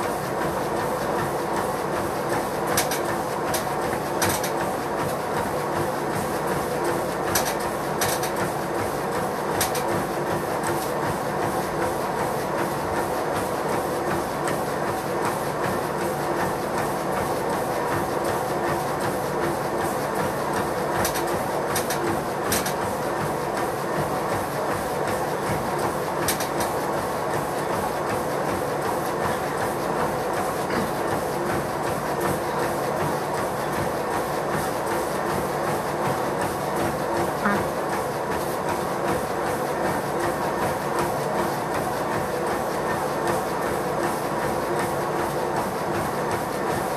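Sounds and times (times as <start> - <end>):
running footfalls on treadmill: 0.0 - 46.9
treadmill motor and belt hum: 0.0 - 46.9.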